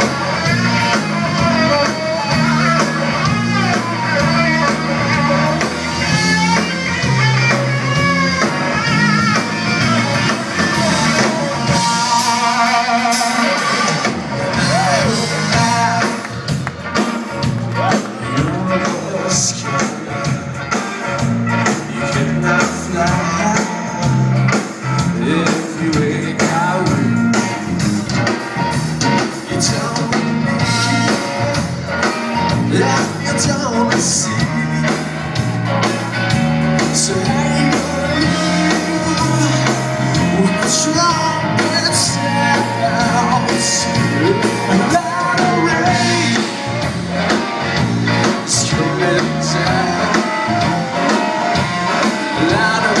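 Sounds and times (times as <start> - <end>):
blues-rock band playing: 0.0 - 53.0
electric guitar: 0.0 - 53.0.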